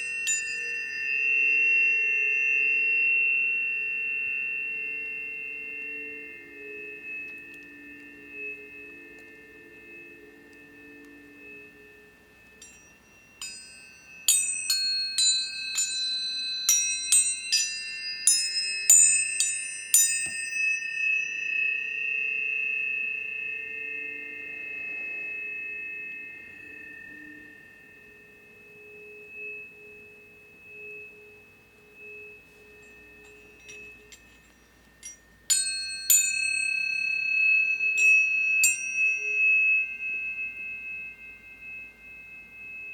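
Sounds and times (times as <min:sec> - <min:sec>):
tuning forks struck and ringing: 0:00.0 - 0:42.9.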